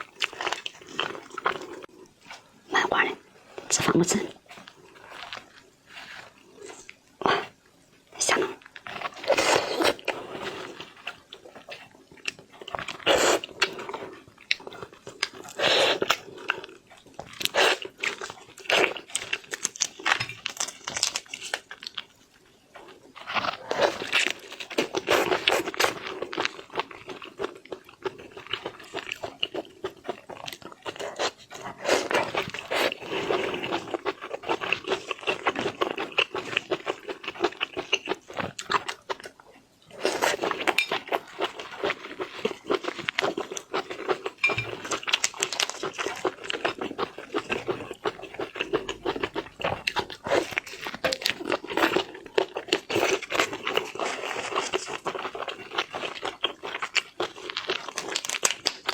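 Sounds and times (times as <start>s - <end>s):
wet chewing: 8.6s - 58.9s.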